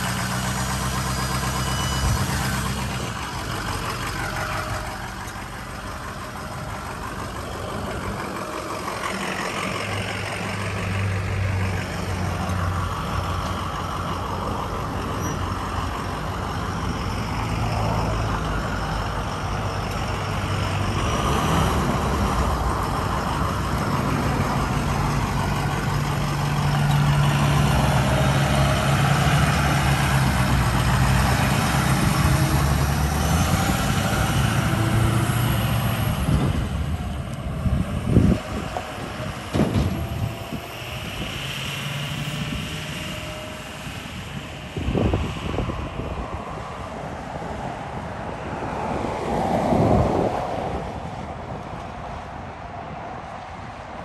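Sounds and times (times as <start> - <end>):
diesel truck driving past: 0.0 - 54.0.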